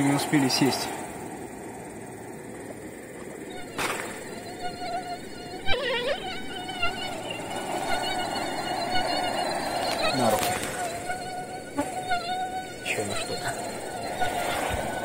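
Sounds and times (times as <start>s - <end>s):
mosquitoes whining: 0.0s - 15.0s.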